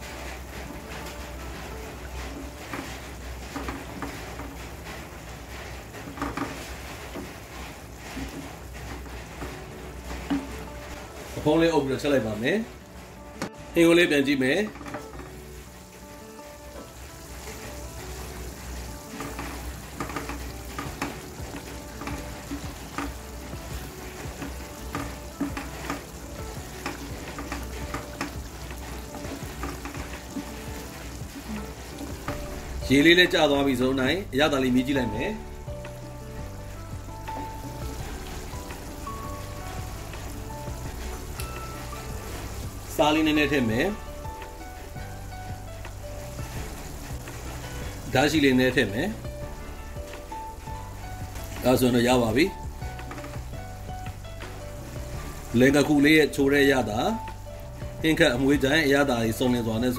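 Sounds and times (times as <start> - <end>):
sauce bubbling in a pan: 0.0 - 59.9
wooden spoon stirring: 0.0 - 59.9.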